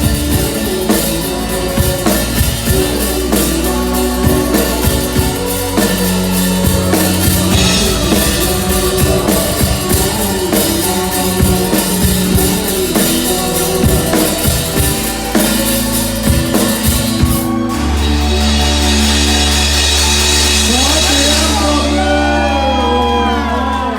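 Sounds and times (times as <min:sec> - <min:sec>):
drum kit kick and snare: 0:00.0 - 0:22.8
pop band music: 0:00.0 - 0:23.9.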